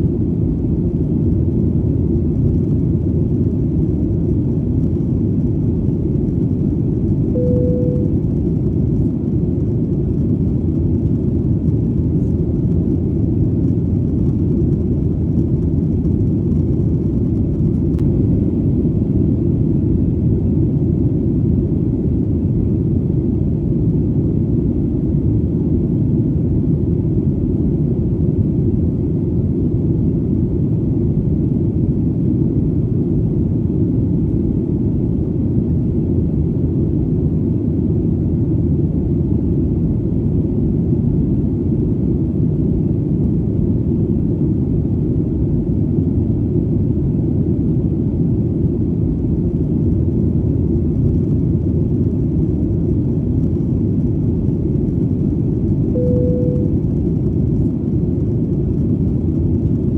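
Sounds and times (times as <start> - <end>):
airplane in flight rumble: 0.0 - 59.9.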